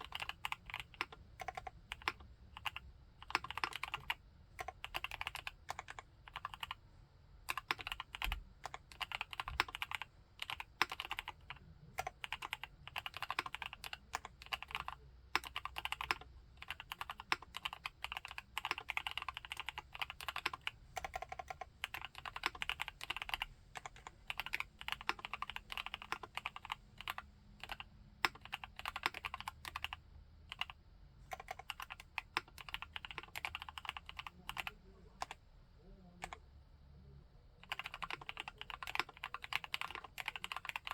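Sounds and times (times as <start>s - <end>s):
mechanical keyboard typing: 0.0s - 6.8s, 7.4s - 35.4s, 37.6s - 40.9s.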